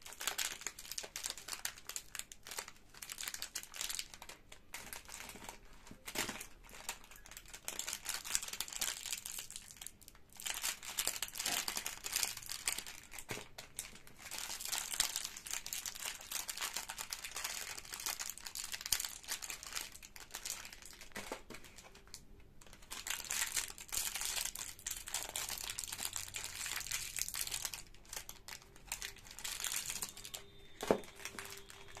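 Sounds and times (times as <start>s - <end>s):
plastic wrappers crinkling: 0.0s - 32.0s.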